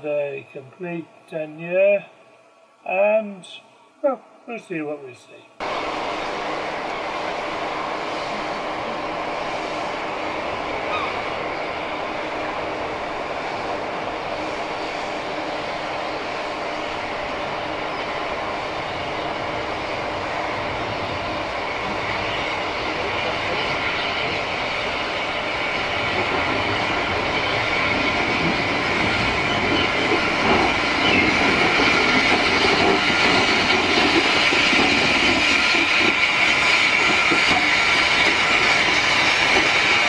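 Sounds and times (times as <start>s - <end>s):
steam locomotive pulling coaches: 0.0s - 40.0s.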